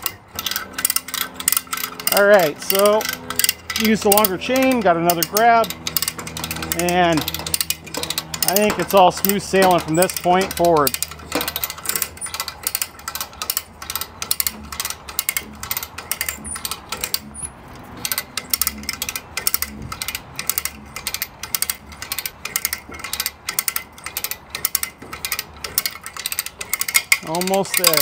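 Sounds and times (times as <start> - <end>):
ratchet clicking: 0.0 - 28.0.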